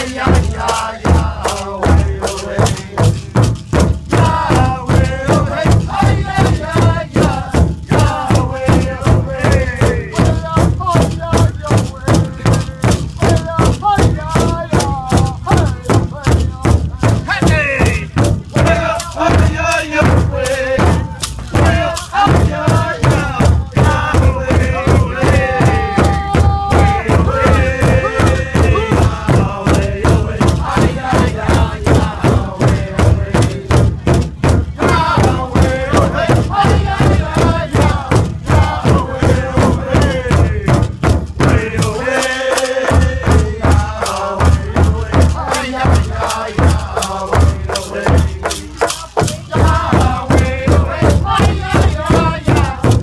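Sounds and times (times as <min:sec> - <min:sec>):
group of men singing: 0:00.0 - 0:53.0
large hide drum beating: 0:00.0 - 0:53.0.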